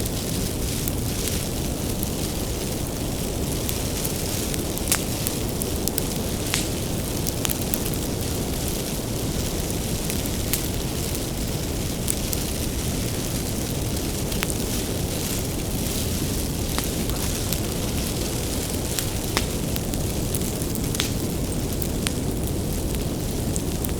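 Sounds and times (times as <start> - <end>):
bonfire flames rumbling: 0.0 - 23.9
fire crackling and popping: 0.0 - 23.9.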